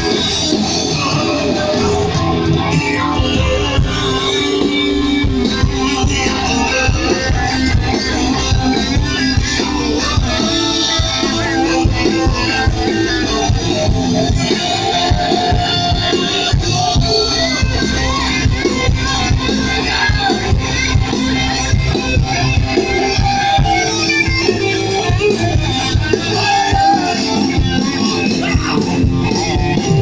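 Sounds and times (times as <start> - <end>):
electric guitars: 0.0 - 30.0
rock band playing live: 0.0 - 30.0
steady drum-kit beat: 0.0 - 30.0.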